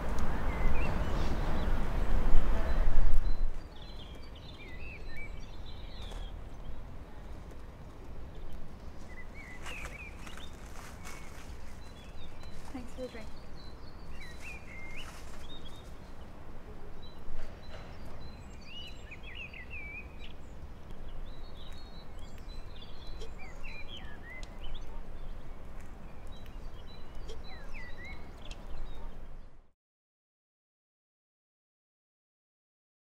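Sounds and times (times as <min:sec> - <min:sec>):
small birds chirping: 0:00.3 - 0:29.7.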